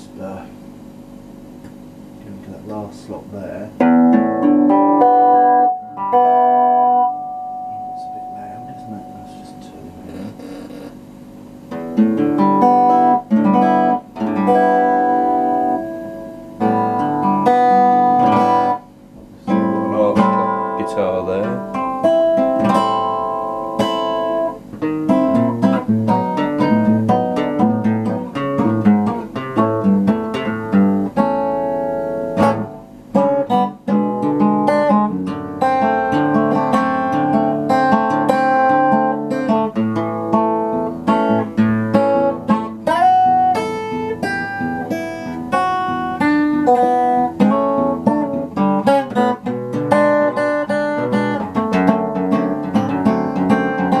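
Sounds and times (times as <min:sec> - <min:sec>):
acoustic guitar playing: 0:01.0 - 0:54.0.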